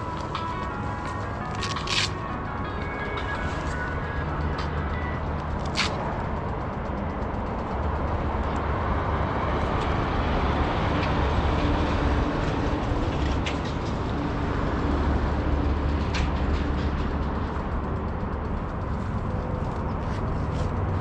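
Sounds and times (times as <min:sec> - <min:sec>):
engine rumbling: 0:00.0 - 0:21.0.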